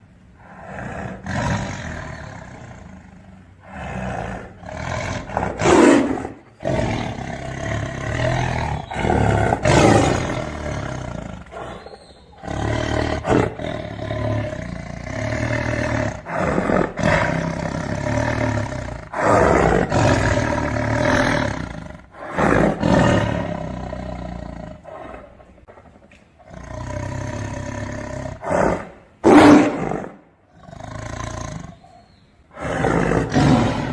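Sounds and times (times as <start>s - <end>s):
tiger roaring: 0.4s - 31.9s, 32.5s - 33.9s.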